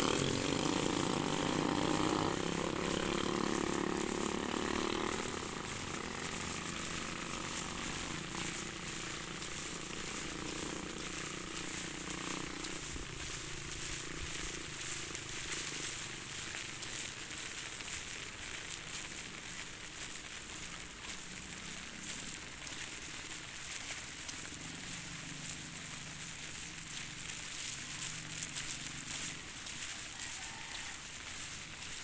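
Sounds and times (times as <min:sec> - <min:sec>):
rain drops ticking: 0:00.0 - 0:32.0
steady rainfall: 0:00.0 - 0:32.0.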